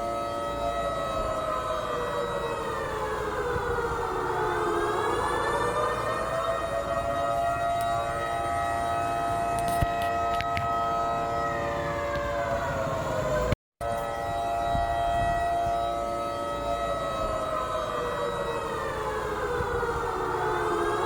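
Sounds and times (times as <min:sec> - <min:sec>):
civil defence siren wailing: 0:00.0 - 0:21.0.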